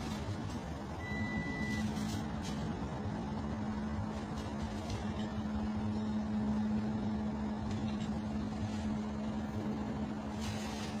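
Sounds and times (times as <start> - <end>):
constant hum: 0.0 - 11.0
freight train rumbling on rails: 0.0 - 11.0.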